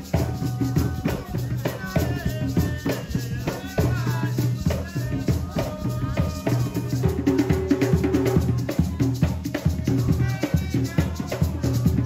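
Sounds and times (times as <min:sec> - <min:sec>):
hand drums playing: 0:00.0 - 0:12.0
shaker: 0:00.0 - 0:12.0
voices singing: 0:00.0 - 0:12.0.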